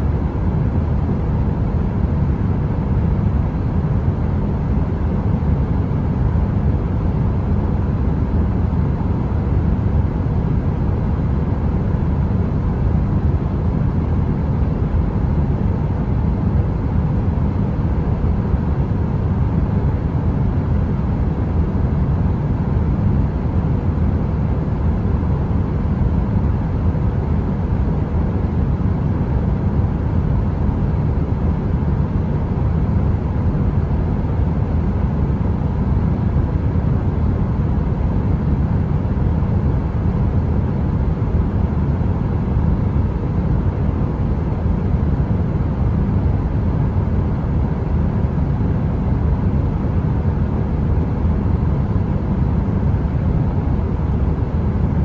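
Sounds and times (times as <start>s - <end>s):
deep steady rumble: 0.0s - 55.0s.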